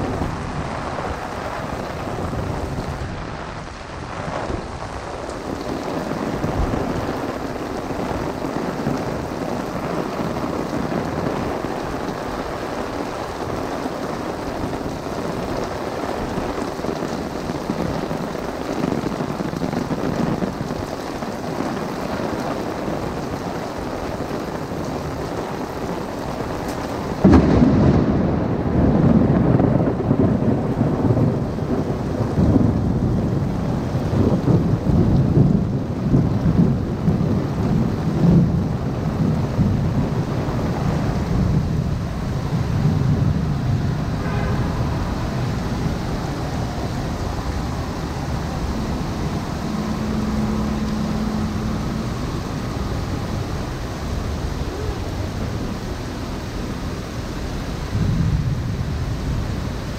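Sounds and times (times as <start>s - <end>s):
heavy rain on an umbrella: 0.0s - 59.9s
thunderclap and rumble: 0.0s - 59.9s.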